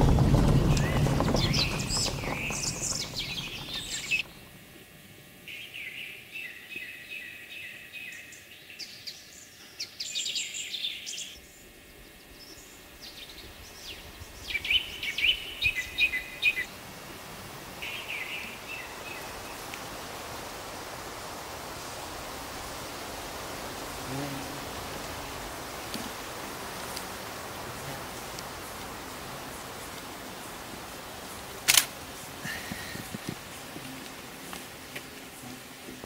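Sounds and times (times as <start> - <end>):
songbirds chirping: 0.0 - 36.0
steady hiss: 0.0 - 36.0.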